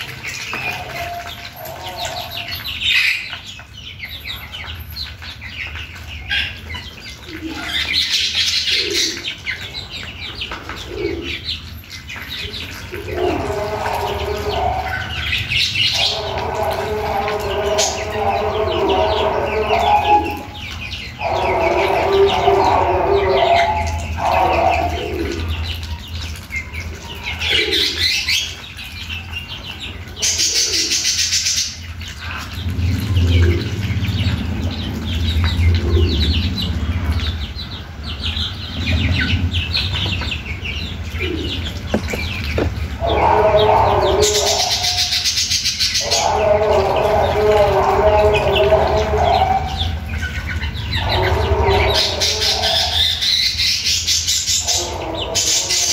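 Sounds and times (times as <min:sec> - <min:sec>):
bills pecking in wet feed: 0:00.0 - 0:55.9
bird calls: 0:00.0 - 0:55.9.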